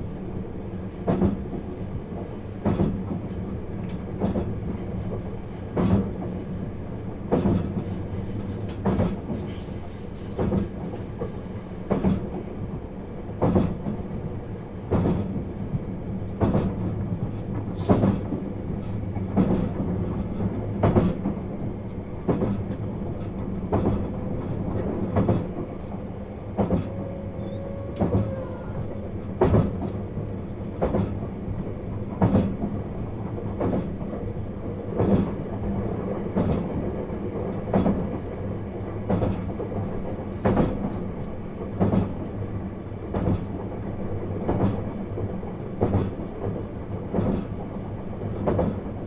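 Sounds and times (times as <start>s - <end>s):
train running low rumble and hum: 0.0s - 49.0s.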